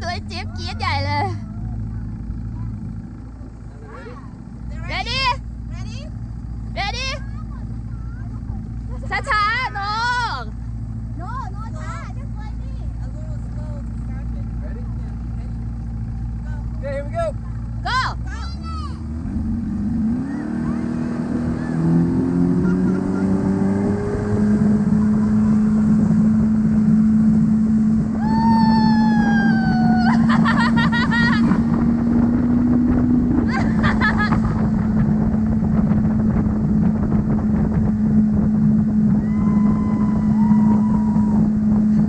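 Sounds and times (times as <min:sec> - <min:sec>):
motorboat engine: 0:00.0 - 0:42.0.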